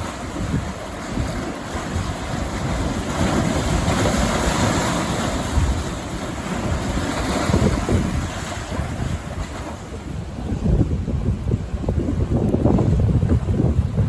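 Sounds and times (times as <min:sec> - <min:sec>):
rough surf rushing: 0:00.0 - 0:14.0
strong wind buffeting microphone: 0:00.0 - 0:14.0.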